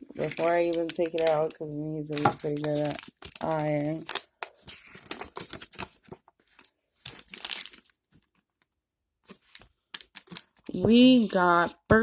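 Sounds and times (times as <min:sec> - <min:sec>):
plastic tearing: 0:00.0 - 0:08.3, 0:09.3 - 0:10.7
plastic packaging crinkling: 0:00.0 - 0:08.6, 0:09.2 - 0:10.8.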